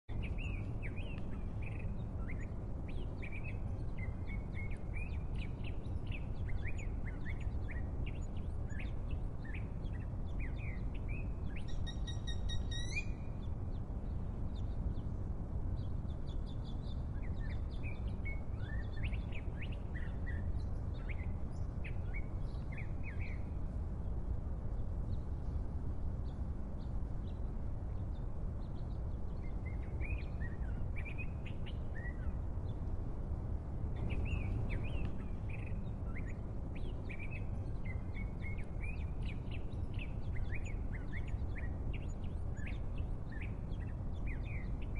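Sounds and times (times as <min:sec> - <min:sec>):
small birds chirping: 0:00.0 - 0:44.9
low background hum: 0:00.1 - 0:44.9.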